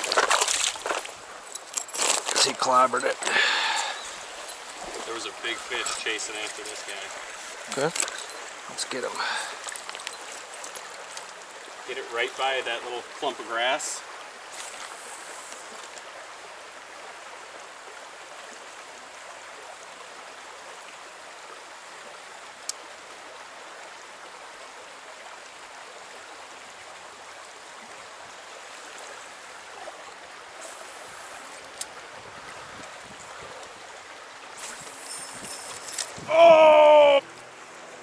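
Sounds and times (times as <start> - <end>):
stream rushing: 0.0 - 38.0.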